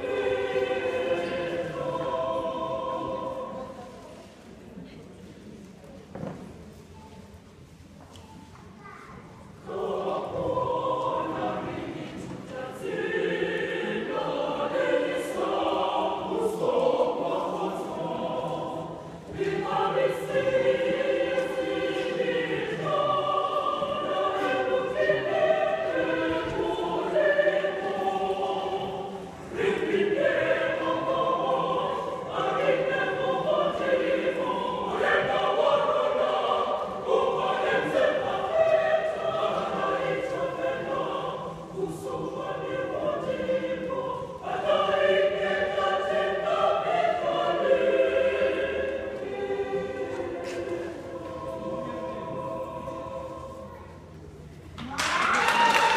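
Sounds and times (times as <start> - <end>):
choir singing in parts: 0.0 - 4.4, 9.6 - 55.9.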